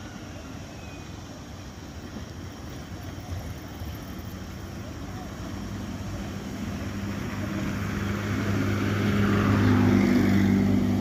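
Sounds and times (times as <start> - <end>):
steam locomotive approaching: 0.0 - 11.0.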